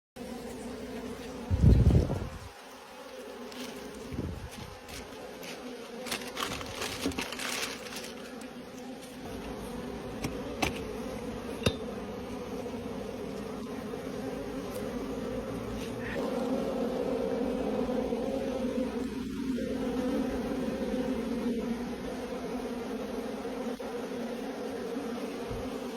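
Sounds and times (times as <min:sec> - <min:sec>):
bees buzzing: 0:00.2 - 0:25.9.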